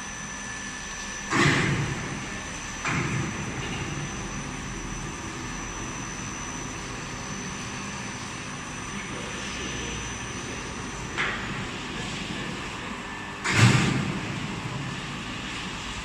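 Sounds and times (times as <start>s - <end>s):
carpet washing machine drone: 0.0s - 16.0s
faint high whine: 0.0s - 16.0s.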